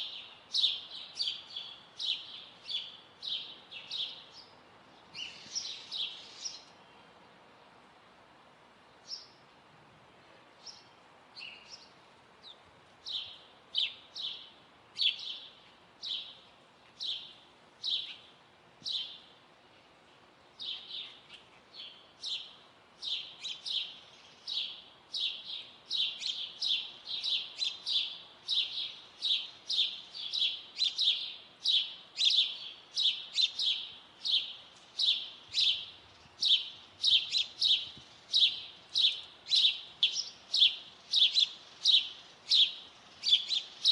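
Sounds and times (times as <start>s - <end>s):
small songbird chirping: 0.0s - 7.1s, 9.0s - 9.4s, 10.6s - 19.3s, 20.6s - 43.9s.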